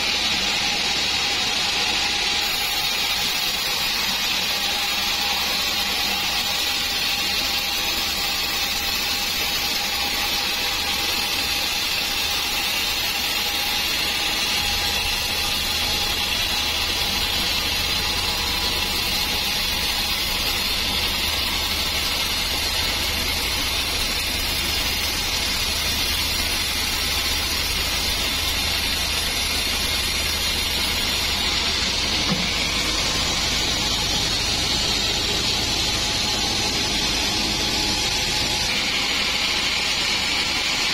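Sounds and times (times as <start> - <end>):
band saw cutting log: 0.0 - 40.9.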